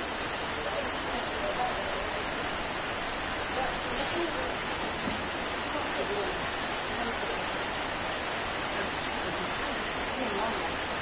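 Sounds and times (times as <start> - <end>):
rain falling on leaves: 0.0 - 11.0.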